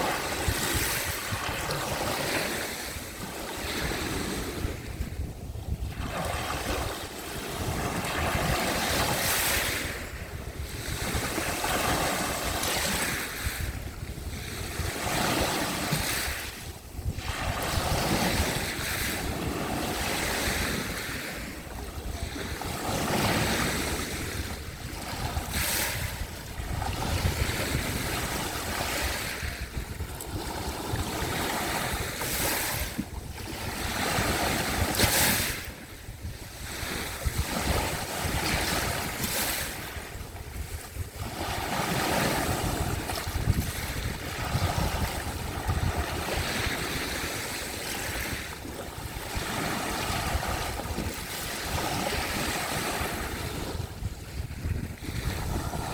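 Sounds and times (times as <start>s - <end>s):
sea waves washing onto shore: 0.0s - 55.9s
wind rumbling on microphone: 0.0s - 55.9s.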